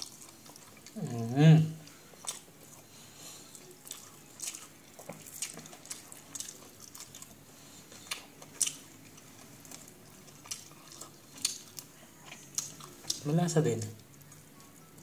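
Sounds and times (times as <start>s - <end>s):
chewing and mouth smacks: 0.0s - 1.2s, 1.8s - 2.8s, 3.5s - 15.0s.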